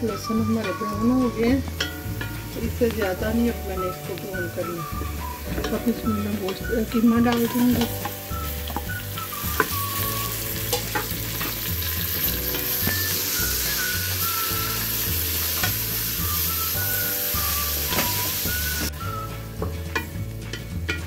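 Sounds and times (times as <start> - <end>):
meat sizzling in hot oil: 0.0 - 21.0.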